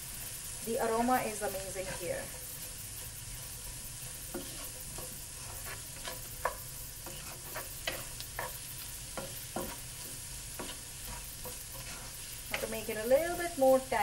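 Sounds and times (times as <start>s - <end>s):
mushrooms sizzling in a pan: 0.0s - 14.0s
spatula scraping a pan: 0.1s - 13.9s.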